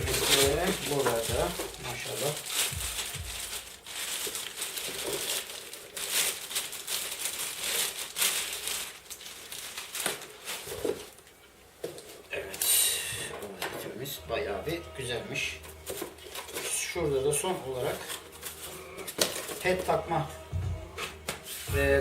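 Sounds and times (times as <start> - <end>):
packaging crinkling: 0.0 - 14.1, 15.0 - 20.4.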